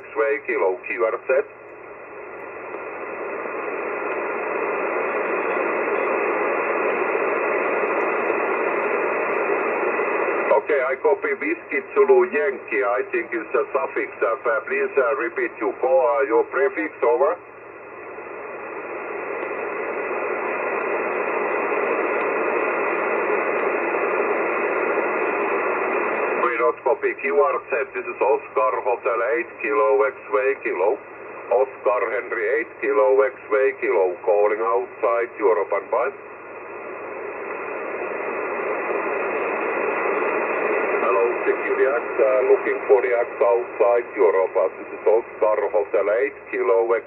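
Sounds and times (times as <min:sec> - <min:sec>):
shortwave receiver hiss: 0:00.0 - 0:47.0.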